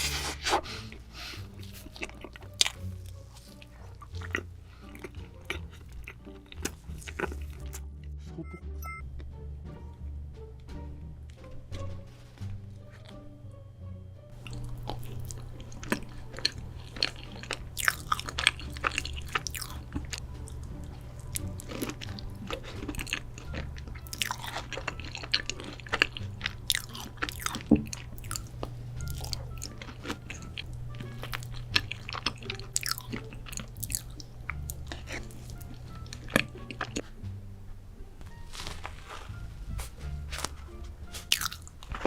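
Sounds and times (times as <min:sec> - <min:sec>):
chocolate chewing and crunching: 0:00.0 - 0:08.2, 0:12.8 - 0:13.2, 0:14.3 - 0:37.2, 0:38.2 - 0:42.0
background music with bass line: 0:00.0 - 0:42.0.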